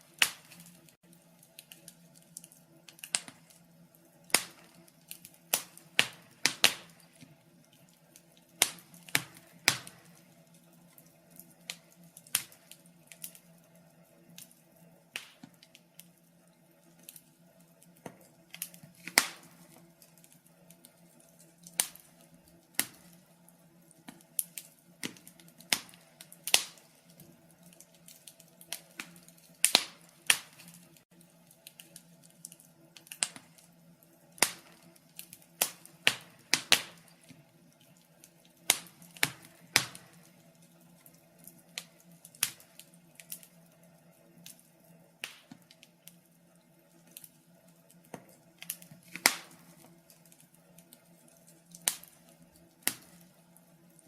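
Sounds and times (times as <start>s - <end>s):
faint steady low hum: 0.0s - 54.0s
wood fire crackling: 0.0s - 54.0s.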